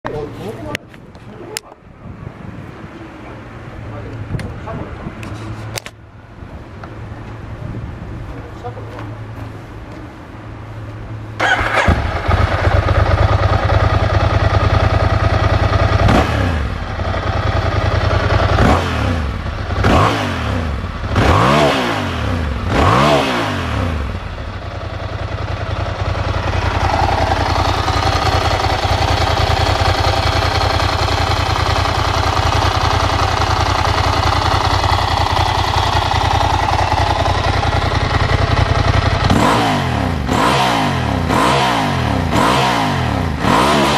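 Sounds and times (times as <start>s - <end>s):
motorcycle engine idling and revving: 2.6s - 43.9s.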